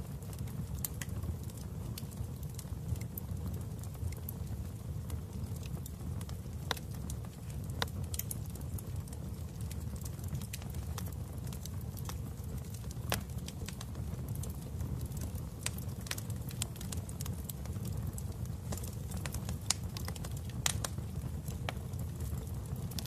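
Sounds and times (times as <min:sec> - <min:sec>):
fire crackling and popping: 0:00.0 - 0:23.0
fireplace fire rumbling: 0:00.0 - 0:23.0.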